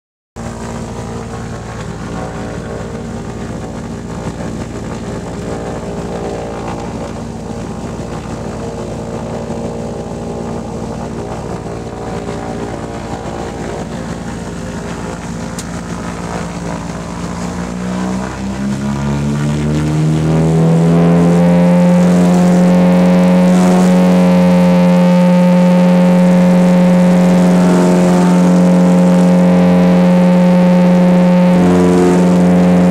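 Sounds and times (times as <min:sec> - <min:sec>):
propeller aircraft engines running: 0:00.4 - 0:32.9.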